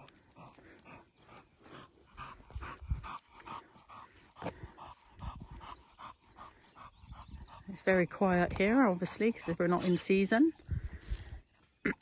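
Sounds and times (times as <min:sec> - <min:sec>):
dog panting: 0:00.0 - 0:10.3.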